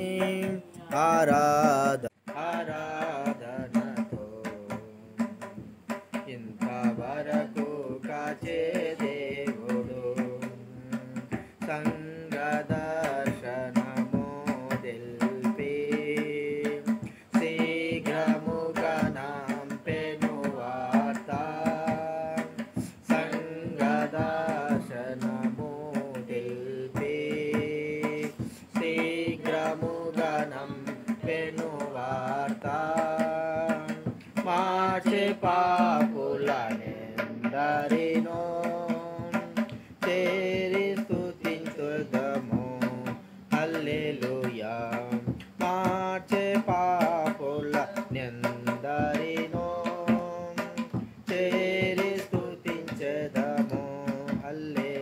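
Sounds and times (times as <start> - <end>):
hymn singing: 0.0 - 5.6, 6.2 - 55.0
instrumental accompaniment: 0.0 - 55.0.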